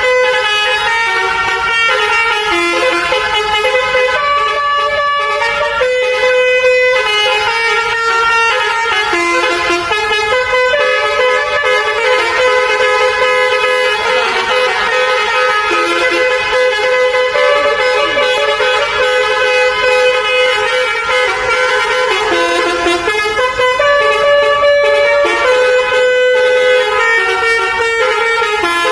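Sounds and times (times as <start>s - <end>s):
bus air horn playing a melody: 0.0s - 28.9s.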